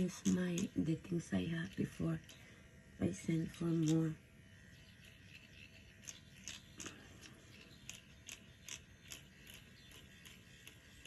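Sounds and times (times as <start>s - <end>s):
microneedling pen clicking and humming: 0.0s - 11.0s.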